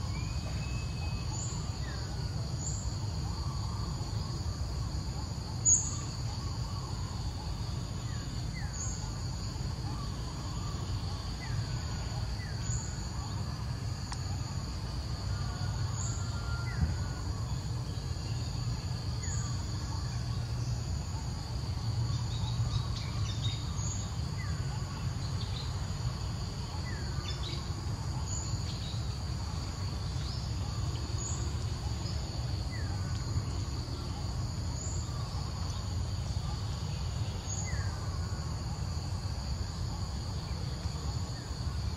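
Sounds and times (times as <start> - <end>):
insects droning: 0.0 - 41.9.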